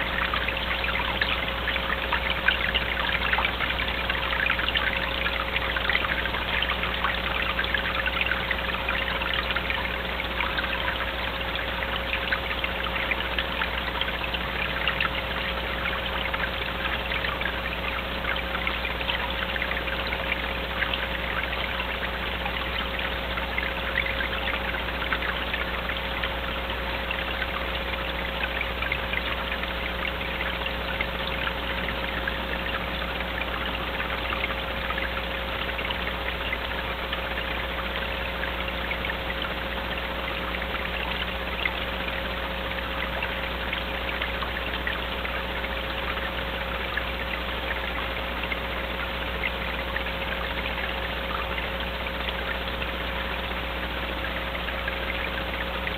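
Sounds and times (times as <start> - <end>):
faint steady tone: 0.0 - 55.9.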